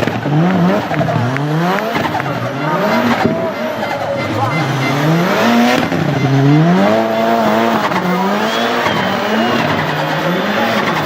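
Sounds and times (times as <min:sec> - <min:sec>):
turbocharged car engine revving: 0:00.0 - 0:11.0
tyre squeal: 0:00.6 - 0:11.0.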